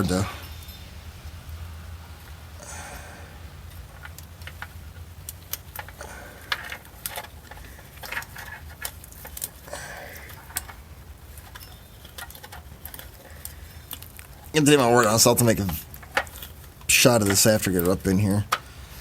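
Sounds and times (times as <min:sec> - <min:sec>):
steady low hum: 0:00.0 - 0:19.0
light clicks and rattles of wire: 0:02.2 - 0:19.0.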